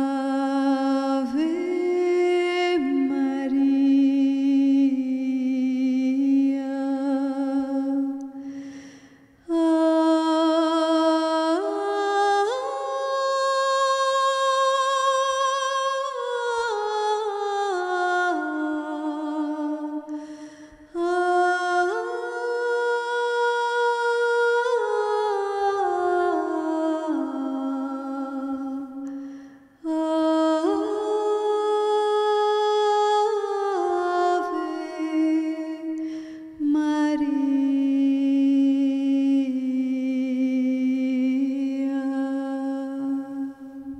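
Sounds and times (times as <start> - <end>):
woman singing a hymn: 0.0 - 8.3, 9.5 - 20.1, 20.9 - 29.0, 29.8 - 43.9.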